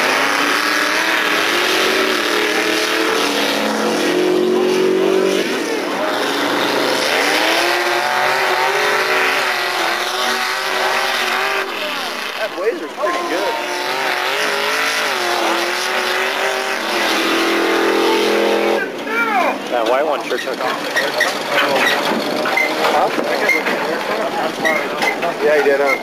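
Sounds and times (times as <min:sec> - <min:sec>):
engine at full throttle: 0:00.0 - 0:25.6.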